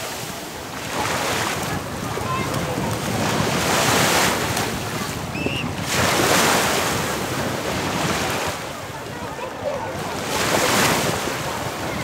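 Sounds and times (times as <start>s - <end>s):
small waves washing on shore: 0.0s - 12.0s
wind on microphone: 0.0s - 12.0s.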